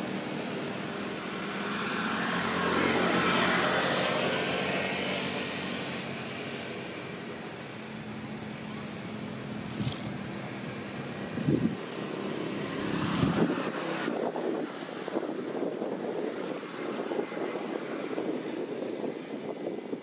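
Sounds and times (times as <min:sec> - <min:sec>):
vehicle passing by: 0:00.0 - 0:07.2, 0:09.4 - 0:19.9.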